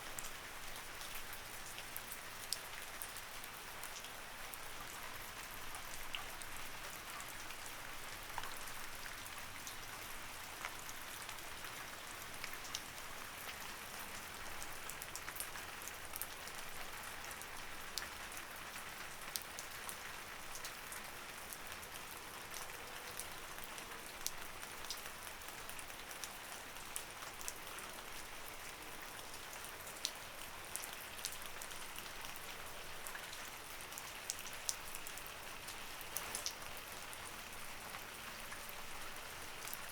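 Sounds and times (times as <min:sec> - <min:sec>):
light rain ticking on a surface: 0:00.0 - 0:39.9.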